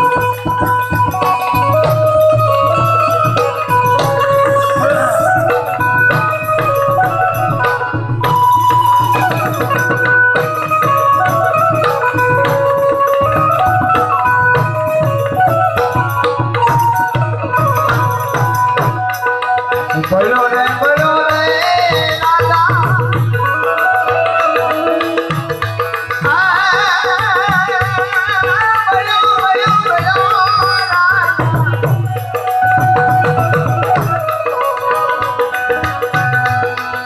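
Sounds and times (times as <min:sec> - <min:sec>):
harmonium melody: 0:00.0 - 0:37.0
tabla: 0:00.0 - 0:37.0.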